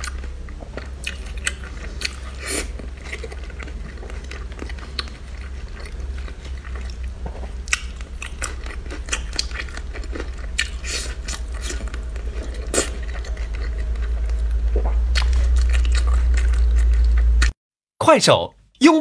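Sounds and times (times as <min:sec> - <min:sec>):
steady low hum: 0:00.0 - 0:17.5
person chewing: 0:00.0 - 0:17.6.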